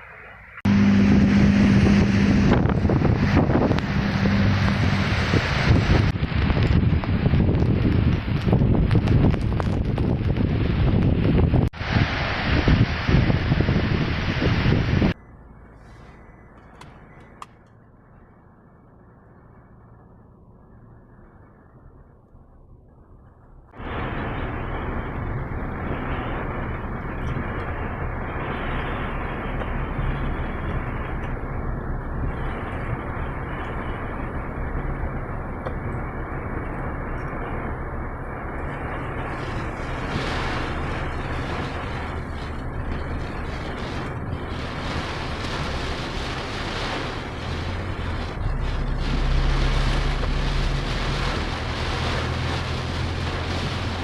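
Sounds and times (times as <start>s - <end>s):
storm wind rushing: 0.6s - 15.2s, 23.8s - 54.0s
wind buffeting microphone: 0.6s - 15.2s, 23.7s - 54.0s.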